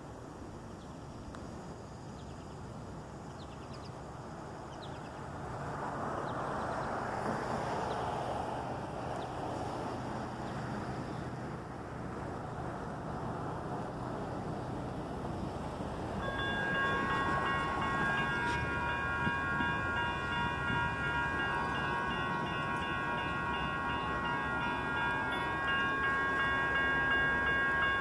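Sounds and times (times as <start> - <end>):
low locomotive engine hum: 0.0 - 28.0.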